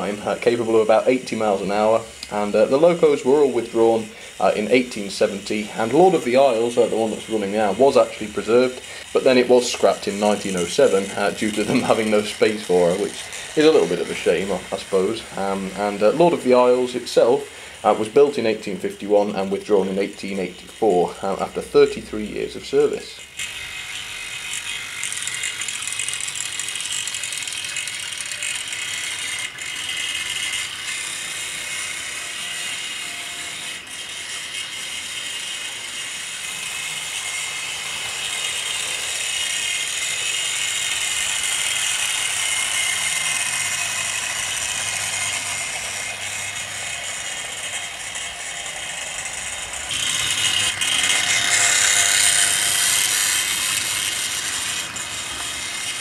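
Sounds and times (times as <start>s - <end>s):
model train motors whirring: 0.0s - 56.0s.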